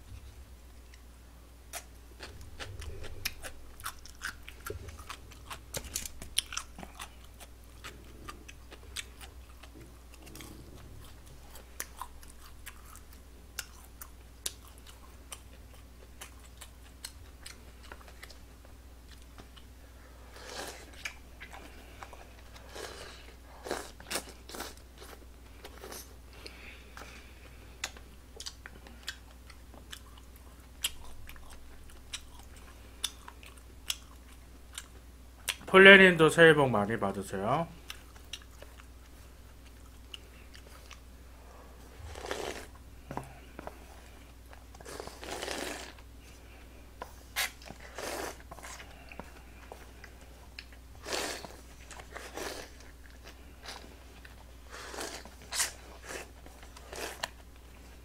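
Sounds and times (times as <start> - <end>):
person chewing food: 1.7 - 35.6, 37.8 - 58.0.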